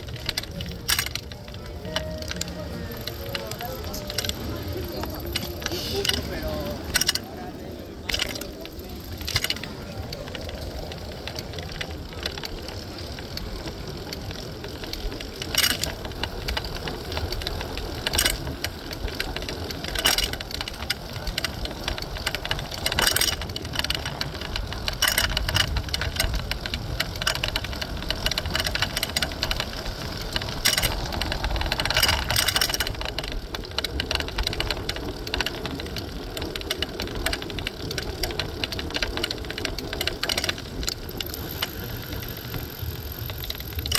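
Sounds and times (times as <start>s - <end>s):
bicycle rattling: 0.0s - 43.9s
wind and riding rumble: 0.0s - 43.9s.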